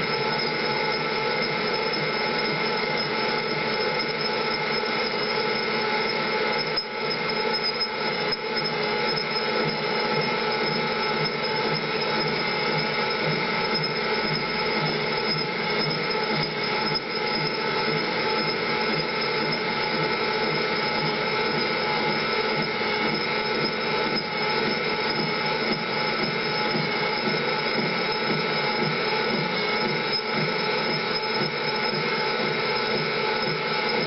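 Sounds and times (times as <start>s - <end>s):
machine tool whining: 0.0s - 34.0s.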